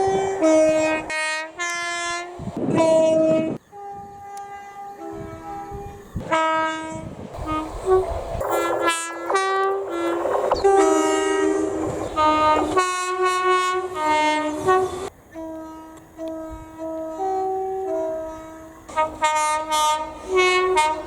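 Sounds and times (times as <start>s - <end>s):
train horn two-tone blasts: 0.0s - 21.0s.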